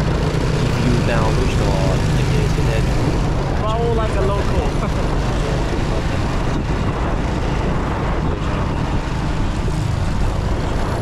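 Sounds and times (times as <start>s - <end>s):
motor scooter traffic rumble: 0.0s - 11.0s.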